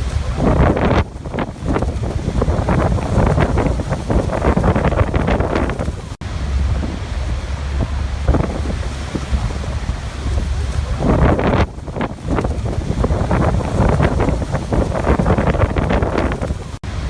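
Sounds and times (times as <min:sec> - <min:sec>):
wind gusting against microphone: 0:00.0 - 0:17.0.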